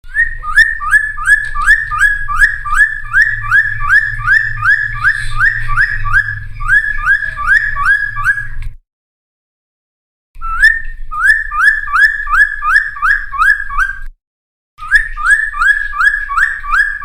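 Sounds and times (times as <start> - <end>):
bird singing whistled notes: 0.0 - 8.6, 10.4 - 14.1, 14.8 - 17.0.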